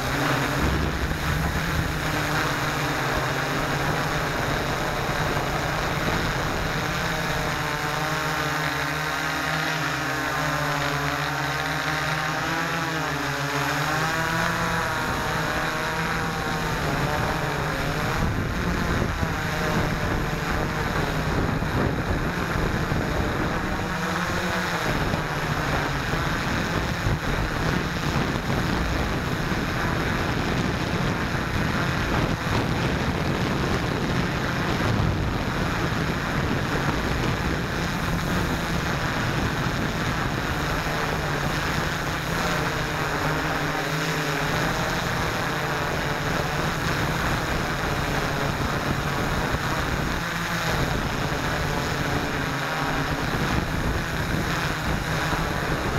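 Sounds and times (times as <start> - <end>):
wind buffeting microphone: 0.0 - 10.0, 13.9 - 55.9
drone motors and propellers whining: 0.0 - 55.9.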